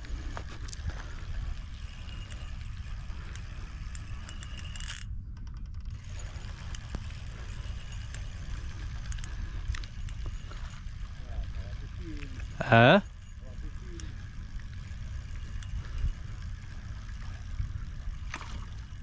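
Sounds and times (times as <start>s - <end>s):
fishing tackle clicking and rattling: 0.0s - 19.0s
steady low rumble: 0.0s - 19.0s.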